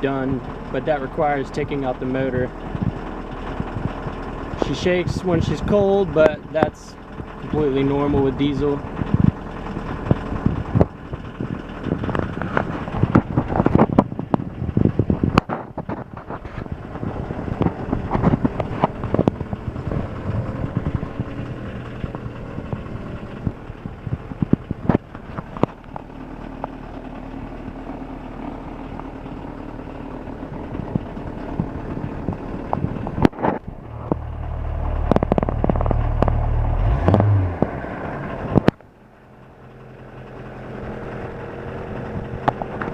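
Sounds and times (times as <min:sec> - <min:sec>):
diesel engine idling: 0:00.0 - 0:42.9
low rumble: 0:00.3 - 0:42.9.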